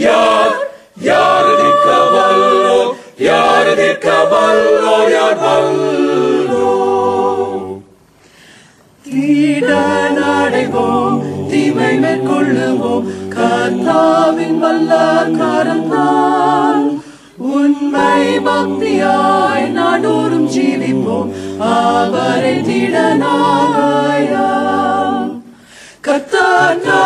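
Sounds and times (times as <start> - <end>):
group singing a cappella: 0.0 - 8.1, 9.0 - 27.0.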